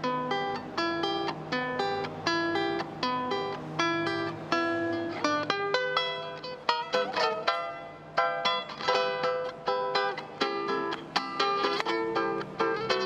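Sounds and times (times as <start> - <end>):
cuatro strummed: 0.0 - 13.0.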